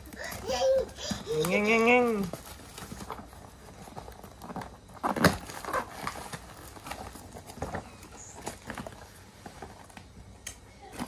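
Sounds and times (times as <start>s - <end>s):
cardboard parcel rustling and crinkling: 0.0s - 11.0s.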